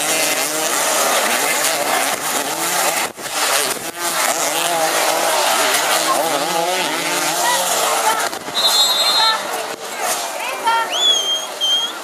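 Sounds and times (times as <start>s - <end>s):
racing engines revving: 0.0s - 12.0s.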